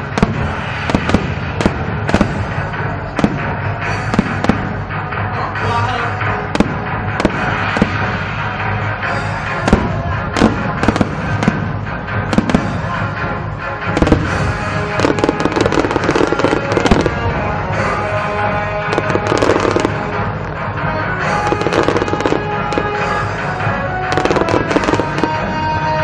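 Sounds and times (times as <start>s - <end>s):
fireworks bursting and crackling: 0.0s - 26.0s
music playing: 0.0s - 26.0s.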